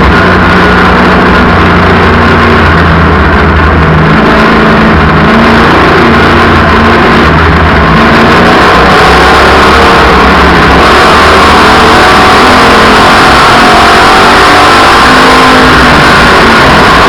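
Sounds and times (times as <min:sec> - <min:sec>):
race car engines running flat out: 0:00.0 - 0:17.0.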